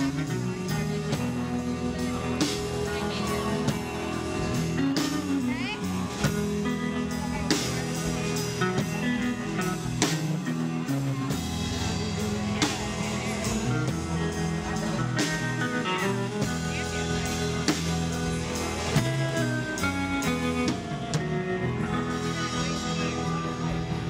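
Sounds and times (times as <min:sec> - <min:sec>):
bass guitar: 0:00.0 - 0:24.0
drum kit: 0:00.0 - 0:24.0
electric guitars: 0:00.0 - 0:24.0.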